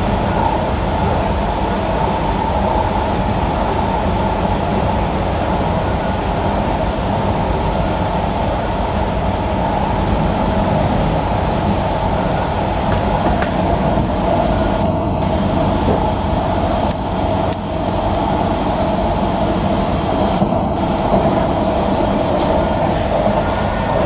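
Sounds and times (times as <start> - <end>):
train rumbling in motion: 0.0 - 24.0.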